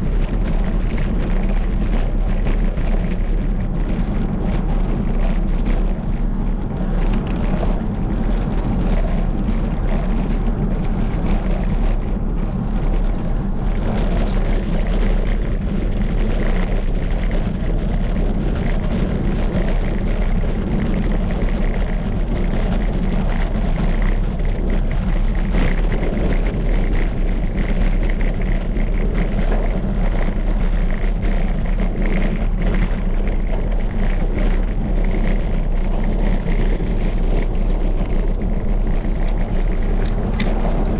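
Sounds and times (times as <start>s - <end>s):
wind buffeting the microphone: 0.0s - 40.9s.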